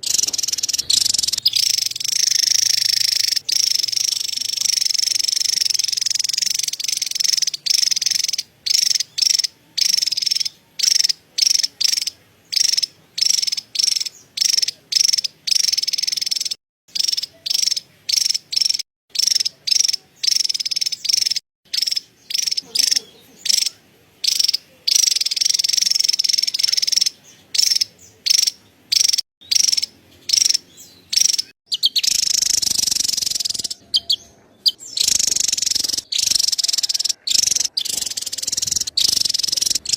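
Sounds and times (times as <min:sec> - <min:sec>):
bird chattering high-pitched calls: 0:00.0 - 0:39.9.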